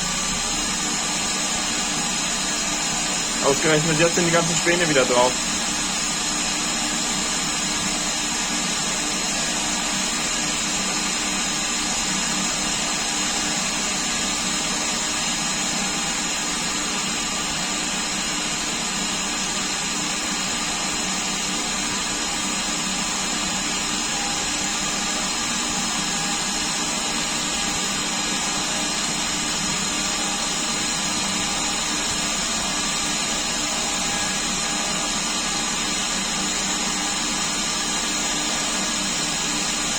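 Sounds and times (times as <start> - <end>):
lathe motor drone with whine: 0.0 - 39.9.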